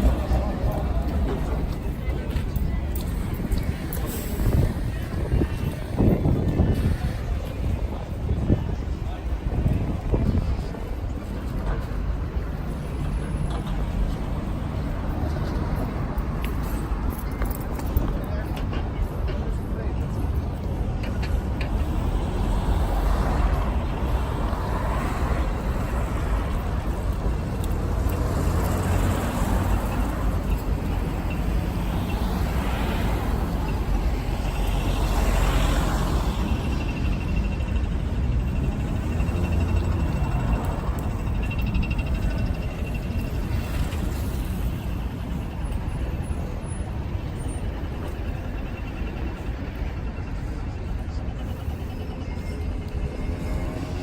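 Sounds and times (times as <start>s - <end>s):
bus running close by: 0.0s - 54.0s
traffic rumble: 0.0s - 54.0s.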